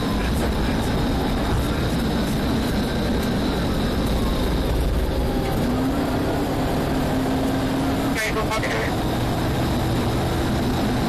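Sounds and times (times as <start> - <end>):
car engine wind and road noise: 0.0 - 11.0.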